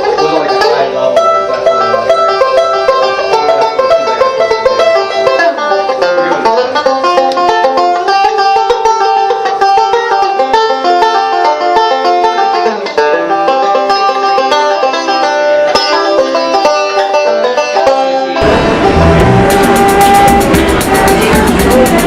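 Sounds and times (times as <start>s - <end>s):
fast plucked string music: 0.0s - 22.0s.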